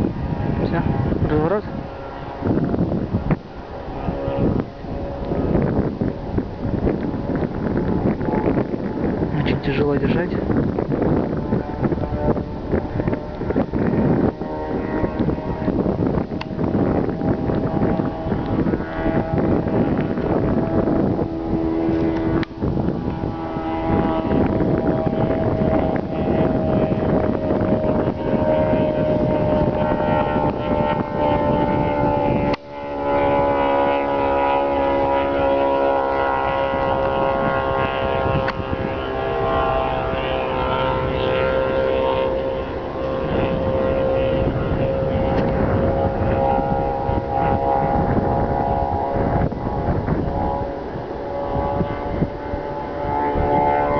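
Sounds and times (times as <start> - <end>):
propeller airplane engine droning: 0.0 - 53.9
wind buffeting microphone: 0.0 - 53.9.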